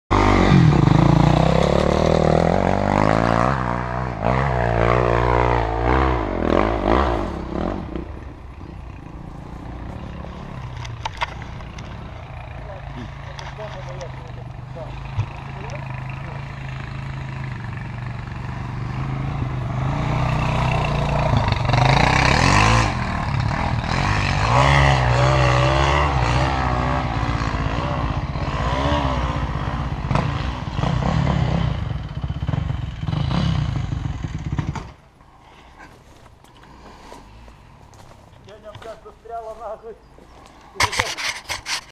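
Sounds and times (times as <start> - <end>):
dirt bike engine revving: 0.1 - 35.6.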